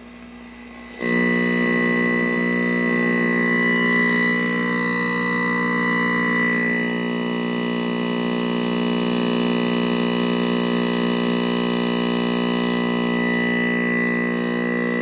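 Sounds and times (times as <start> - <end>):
buzzy electronic game tones: 0.0 - 15.0.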